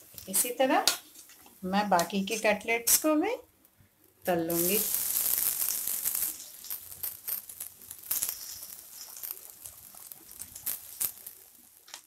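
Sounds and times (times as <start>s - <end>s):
food sizzling in hot oil: 0.0s - 3.2s, 4.2s - 12.0s
oil crackles and pops: 0.0s - 12.0s.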